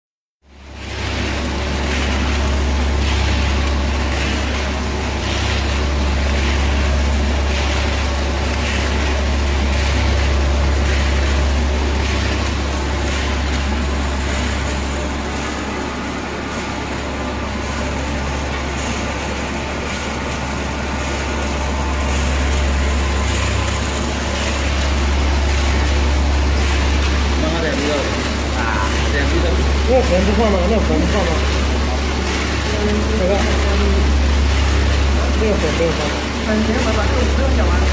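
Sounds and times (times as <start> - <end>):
mixer motor humming: 0.4 - 37.9
granular material rattling: 0.8 - 37.9.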